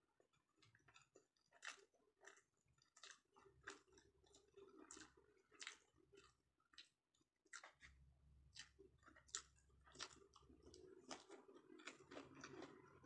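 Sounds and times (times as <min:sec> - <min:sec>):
person chewing food: 0:00.1 - 0:13.0
mouth clicks and smacks: 0:00.6 - 0:08.0, 0:08.6 - 0:12.9.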